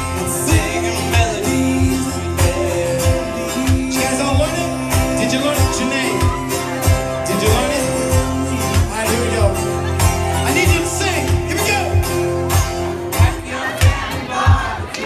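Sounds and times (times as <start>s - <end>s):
man singing into a microphone: 0.0s - 12.2s
live band playing: 0.0s - 15.0s.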